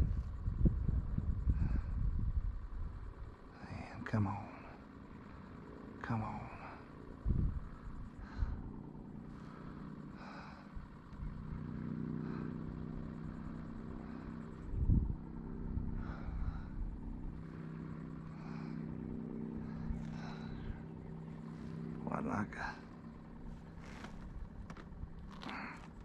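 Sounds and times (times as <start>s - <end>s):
motor engine humming: 0.0s - 26.0s.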